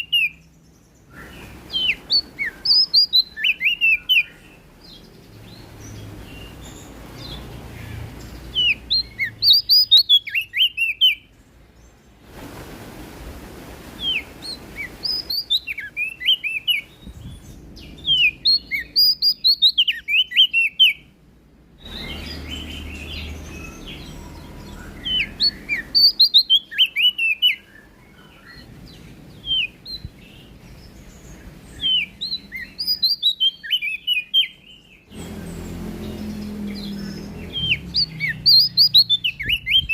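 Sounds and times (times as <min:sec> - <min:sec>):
bird high chirps and trills: 0:00.0 - 0:12.2, 0:14.0 - 0:39.9.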